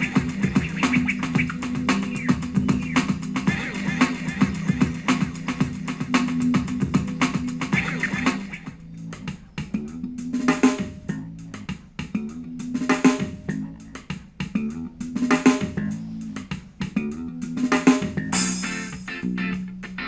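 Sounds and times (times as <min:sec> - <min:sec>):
guitar bass and drums music: 0:00.0 - 0:20.0.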